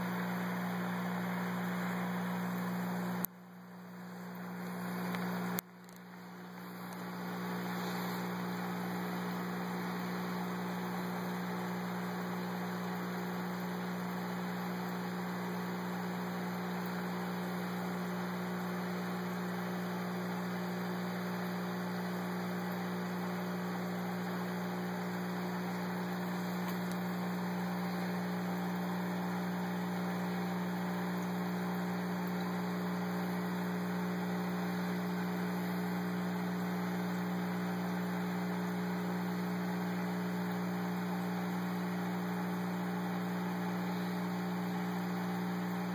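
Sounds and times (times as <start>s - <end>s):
aquarium pump humming: 0.0s - 45.9s.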